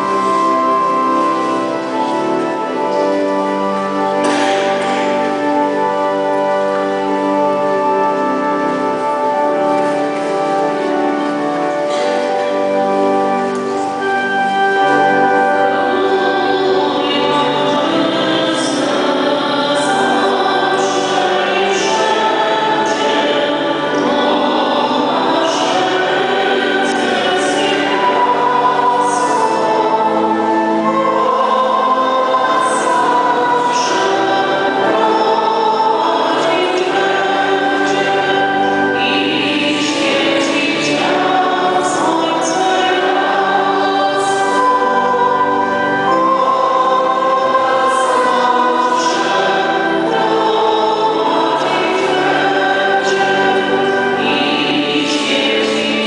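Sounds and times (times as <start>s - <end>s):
church choir singing hymn: 0.0s - 56.0s.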